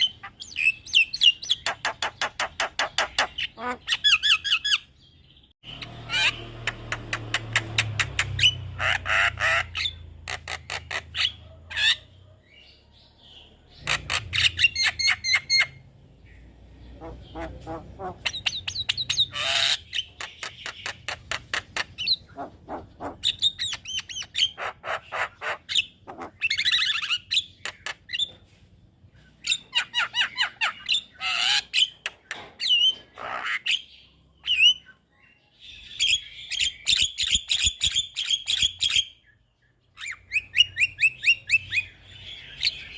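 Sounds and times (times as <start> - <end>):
bird chattering and whistling: 0.0 - 5.0, 5.6 - 12.7, 13.8 - 15.8, 16.9 - 28.4, 29.4 - 35.0, 35.7 - 42.9.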